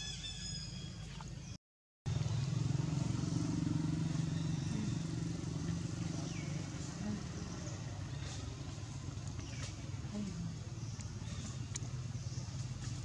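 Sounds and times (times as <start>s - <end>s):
motor engine pulsing hum: 2.1s - 13.0s.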